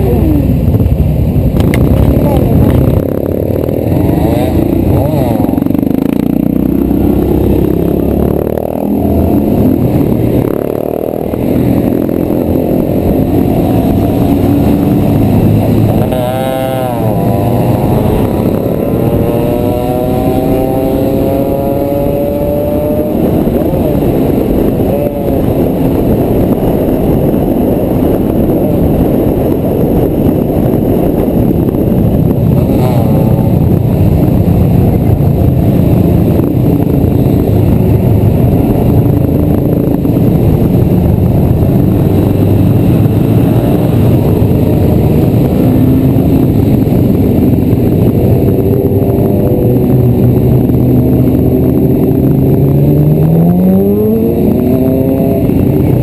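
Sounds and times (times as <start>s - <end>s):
motorcycle accelerating: 0.0s - 56.0s
motorcycle engines running: 0.0s - 56.0s
road noise: 0.0s - 56.0s.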